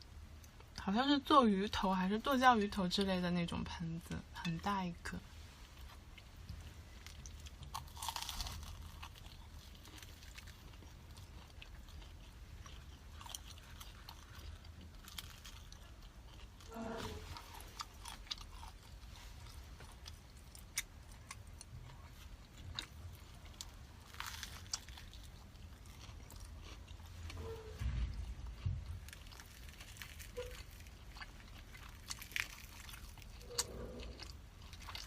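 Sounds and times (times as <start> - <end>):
biting and chewing food: 5.7 - 35.0.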